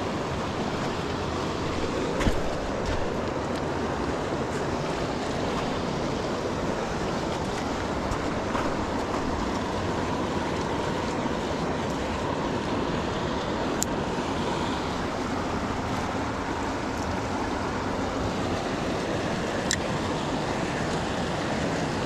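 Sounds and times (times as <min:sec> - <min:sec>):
river water rushing over rocks: 0:00.0 - 0:22.0.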